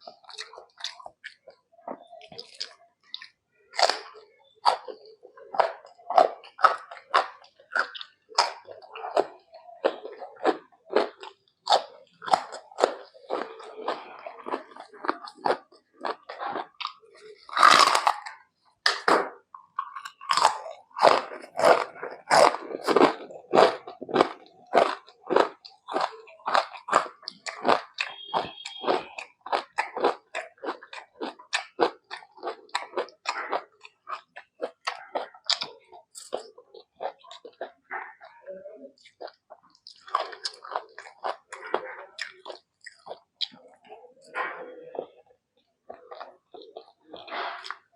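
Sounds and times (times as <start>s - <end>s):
chewing and wet mouth smacks: 0.0s - 47.9s.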